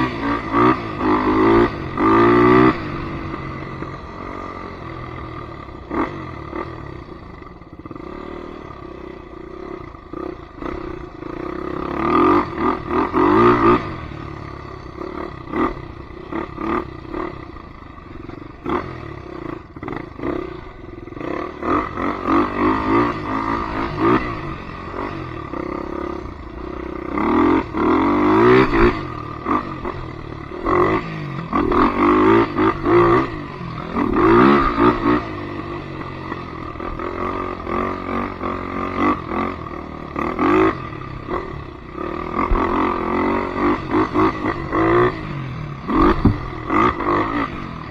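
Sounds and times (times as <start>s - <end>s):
atv engine revving: 0.0s - 47.9s.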